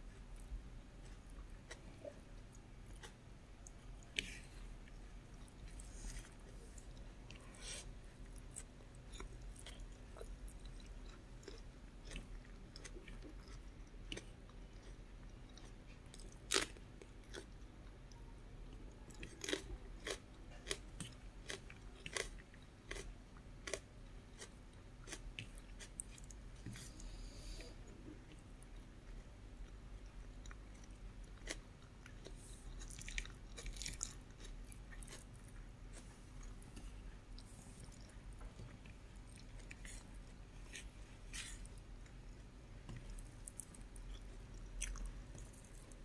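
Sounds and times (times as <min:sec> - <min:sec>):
person chewing food: 0:00.1 - 0:46.0.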